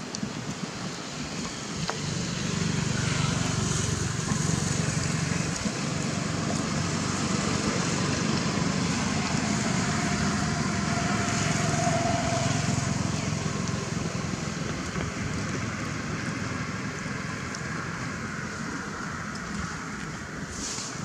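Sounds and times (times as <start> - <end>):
motor engine humming: 1.3 - 20.5.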